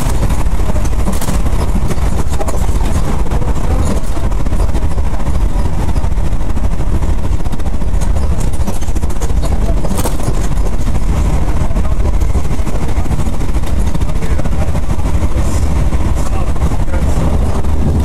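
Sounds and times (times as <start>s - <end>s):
train rumbling and rattling: 0.0s - 18.0s.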